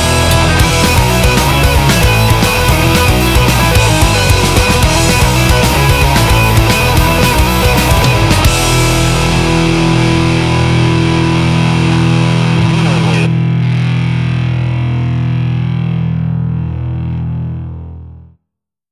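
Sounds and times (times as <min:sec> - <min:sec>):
rock band final hit: 0:00.0 - 0:16.8
distorted guitar and bass chord ringing: 0:00.0 - 0:18.4.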